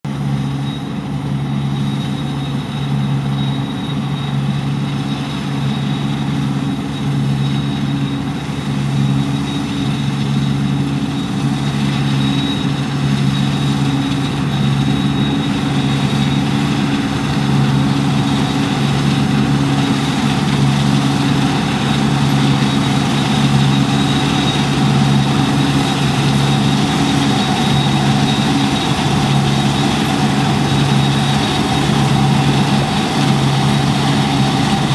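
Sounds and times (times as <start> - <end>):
combine harvester engine drone: 0.0 - 34.9
high-pitched whine: 0.1 - 34.9.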